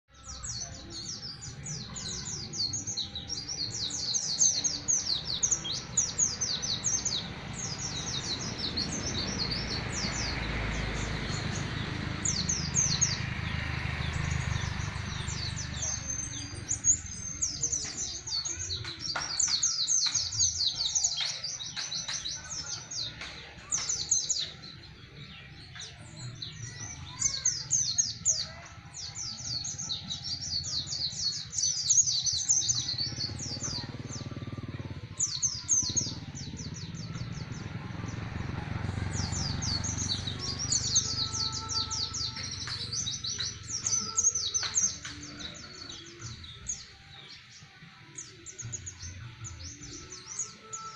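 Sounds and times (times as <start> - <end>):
bird singing high chirps: 0.1 - 50.9.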